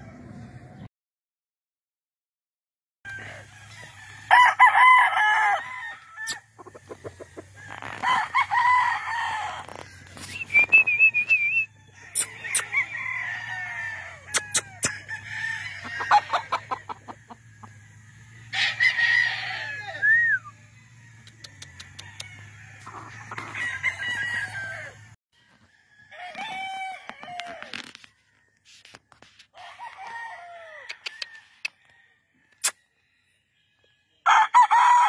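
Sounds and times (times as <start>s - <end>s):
roosters crowing: 3.1s - 35.0s.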